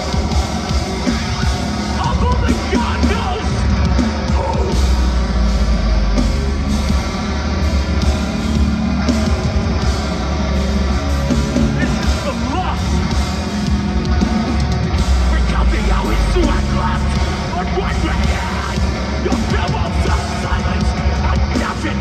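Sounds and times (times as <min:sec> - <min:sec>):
metalcore band playing live: 0:00.0 - 0:22.0
singer's vocals: 0:00.0 - 0:22.0.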